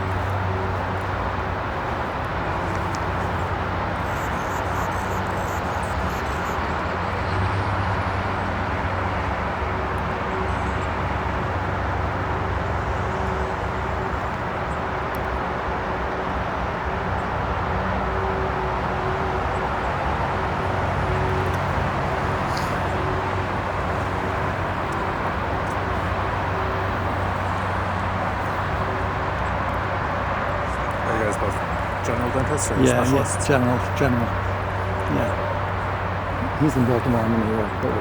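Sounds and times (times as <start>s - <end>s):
distant traffic roar: 0.0s - 38.0s.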